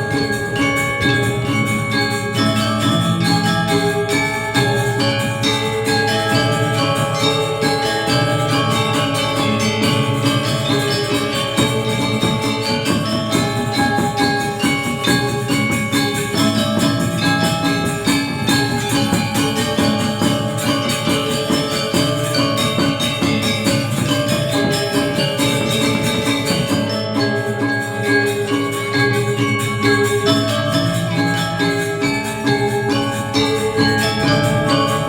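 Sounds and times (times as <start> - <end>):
gamelan metallophones: 0.0 - 35.0.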